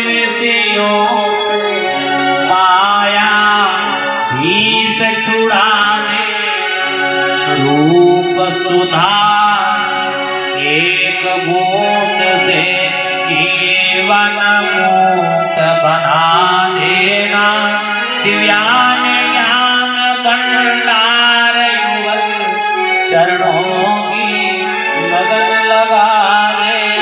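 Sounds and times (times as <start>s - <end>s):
harmonium holding notes: 0.0s - 27.0s
man singing chant-like song: 0.0s - 27.0s.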